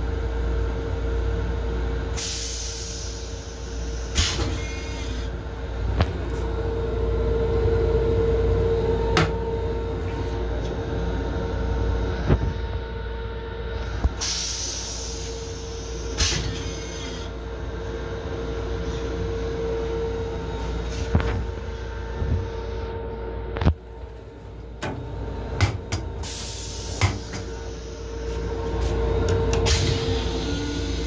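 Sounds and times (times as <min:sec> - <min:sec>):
train rumble with hum: 0:00.0 - 0:31.0.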